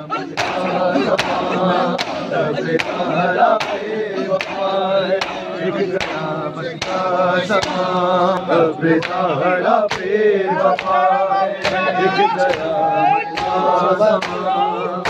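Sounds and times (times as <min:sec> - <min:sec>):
men chanting together: 0:00.0 - 0:15.0
hands slapping chests: 0:00.2 - 0:14.6.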